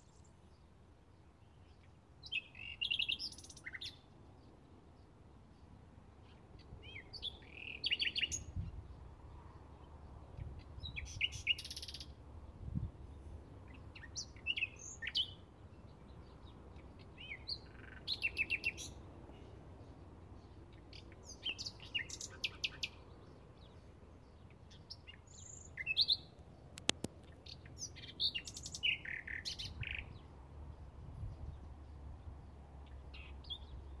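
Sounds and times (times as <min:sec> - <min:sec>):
bird singing: 0:00.0 - 0:12.2, 0:13.0 - 0:34.0.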